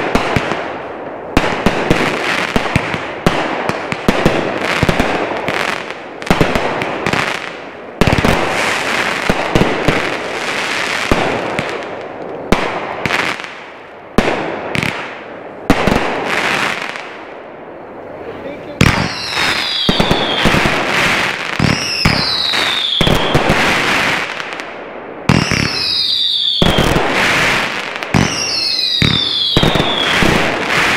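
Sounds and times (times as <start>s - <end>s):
fireworks bangs: 0.0s - 17.4s, 18.3s - 30.9s
fireworks crackling: 0.0s - 30.9s.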